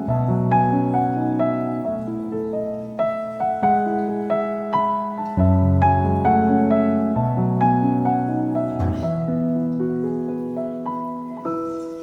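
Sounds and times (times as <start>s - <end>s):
soft slow piano music: 0.0s - 12.0s.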